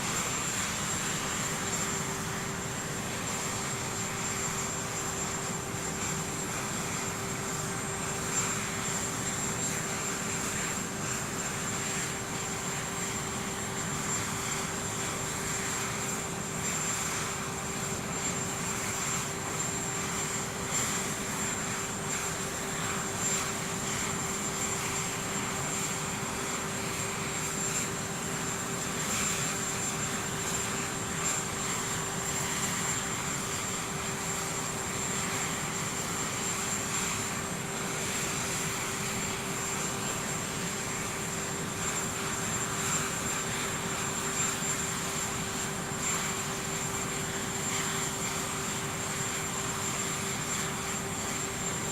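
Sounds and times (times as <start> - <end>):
aircraft engines humming: 0.0 - 51.9.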